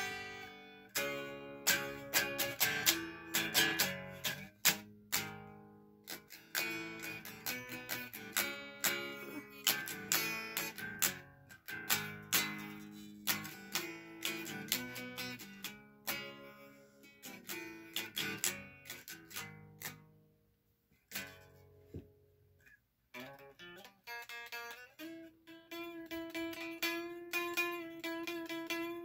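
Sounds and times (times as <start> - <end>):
electric guitar riffs: 0.0 - 20.2, 23.1 - 29.0.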